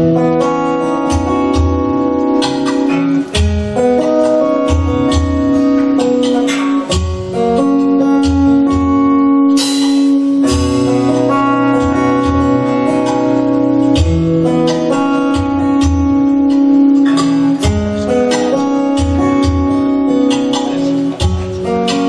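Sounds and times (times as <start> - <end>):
acoustic guitar: 0.0 - 22.0
live band playing: 0.0 - 22.0.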